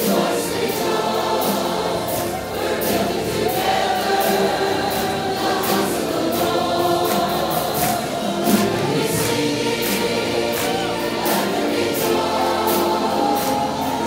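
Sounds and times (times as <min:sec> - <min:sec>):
gospel choir singing: 0:00.0 - 0:14.0.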